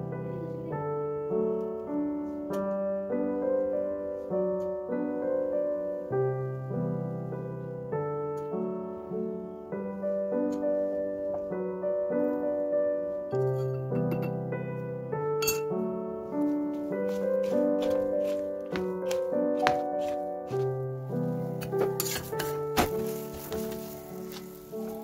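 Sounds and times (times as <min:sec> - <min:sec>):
solo piano music: 0:00.0 - 0:25.0.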